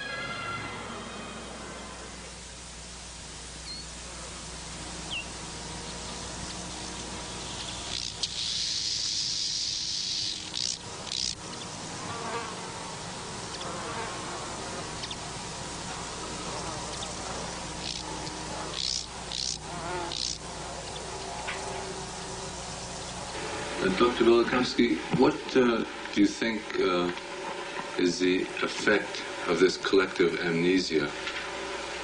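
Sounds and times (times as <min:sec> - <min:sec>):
insects buzzing: 0:00.0 - 0:32.0
loud high buzz: 0:00.0 - 0:32.0.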